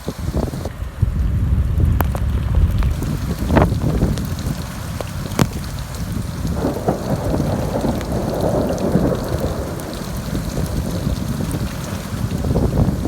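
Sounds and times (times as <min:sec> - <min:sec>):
rain falling: 0:00.0 - 0:13.0
thunder rumbling: 0:00.0 - 0:13.0
thunder cracks: 0:01.9 - 0:13.0.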